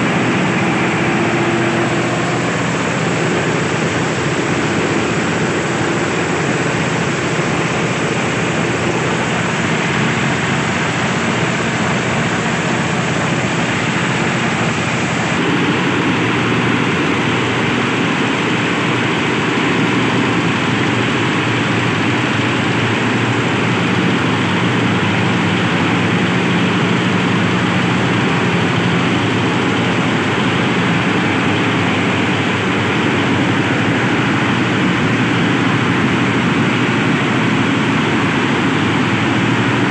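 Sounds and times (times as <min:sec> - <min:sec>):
compost chopper running: 0:00.0 - 0:39.9.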